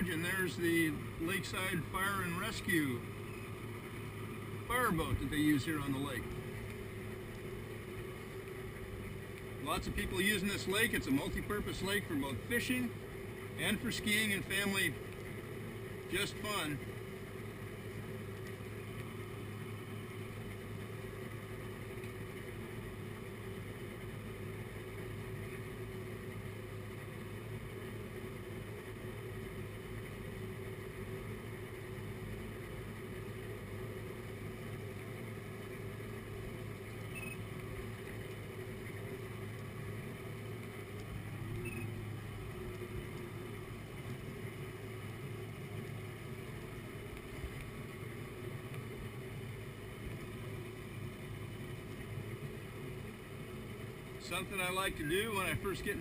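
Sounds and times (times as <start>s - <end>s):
jet boat engine idling: 0.0s - 56.0s.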